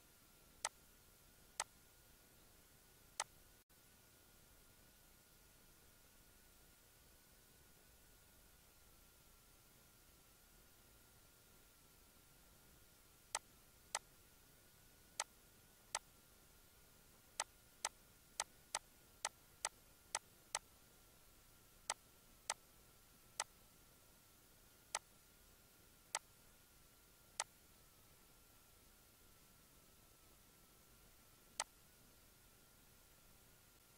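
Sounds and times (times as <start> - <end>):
faint high hum: 0.0 - 33.9.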